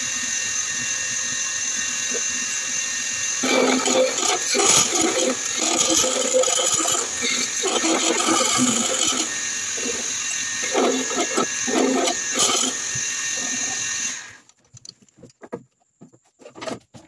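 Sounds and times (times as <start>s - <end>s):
lathe running: 0.0s - 14.4s
tool scraping spinning wood: 0.4s - 14.5s, 15.2s - 17.0s.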